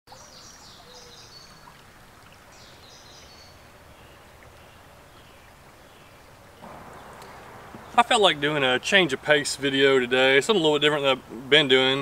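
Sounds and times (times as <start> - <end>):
songbird singing: 0.1 - 1.8, 2.4 - 10.9
creek water running: 0.1 - 12.0.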